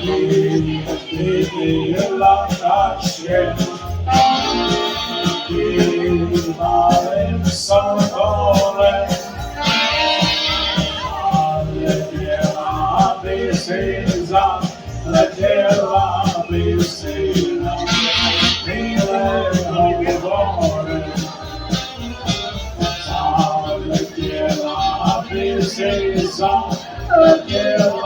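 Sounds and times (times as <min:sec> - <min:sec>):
bouncing bass beat: 0:00.0 - 0:28.0
polka band playing: 0:00.0 - 0:28.0.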